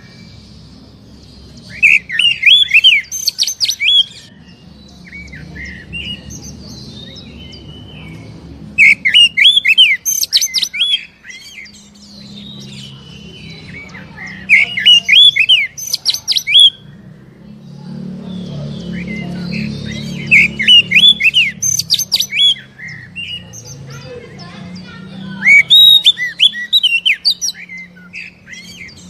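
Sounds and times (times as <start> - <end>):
bird chirps: 0.0 - 29.0
songbird singing harsh runs: 0.0 - 29.0.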